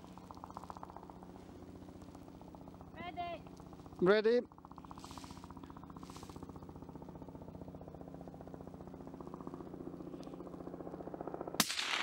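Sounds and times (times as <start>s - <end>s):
motor running steadily: 0.0s - 11.8s.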